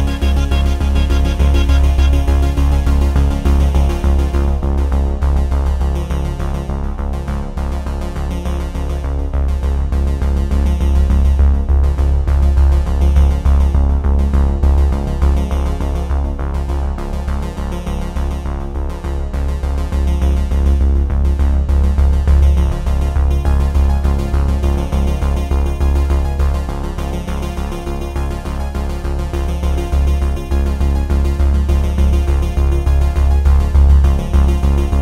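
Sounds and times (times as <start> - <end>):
pulsing bass beat: 0.0 - 35.0
synthesizer: 0.0 - 35.0.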